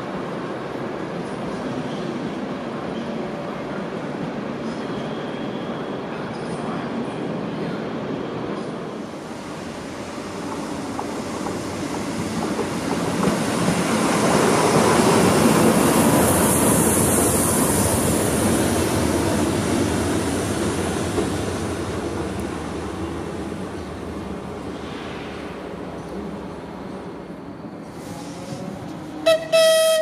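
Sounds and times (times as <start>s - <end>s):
train running on rails: 0.0s - 30.0s.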